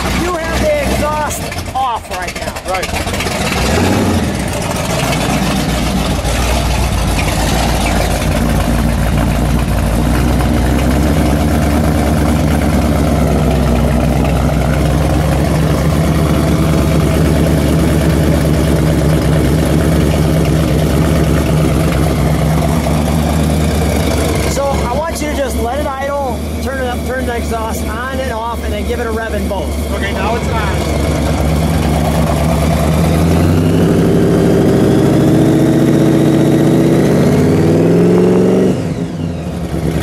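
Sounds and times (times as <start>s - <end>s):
vee eight engine idling loudly: 0.0s - 40.0s.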